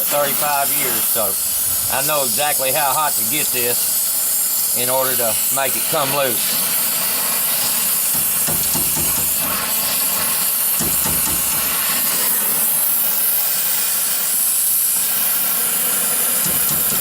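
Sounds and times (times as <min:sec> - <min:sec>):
gas torch flame hissing: 0:00.0 - 0:17.0.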